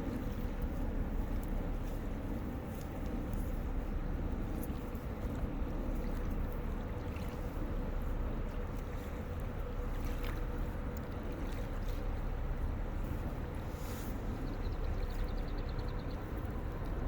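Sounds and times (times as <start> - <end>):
boat engine droning: 0.0 - 17.0
wind: 0.0 - 17.0.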